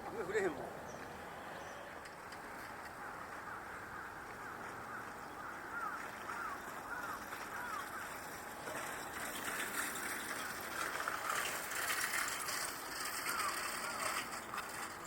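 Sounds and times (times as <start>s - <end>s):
bird calling: 0.0s - 9.5s, 10.1s - 15.0s
steady outdoor hiss: 0.0s - 15.0s.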